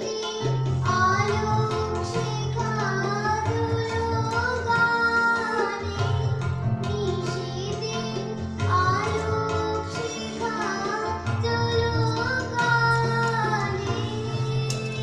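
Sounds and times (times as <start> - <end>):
girl singing: 0.0 - 15.0
sustained keyboard chords: 0.0 - 15.0.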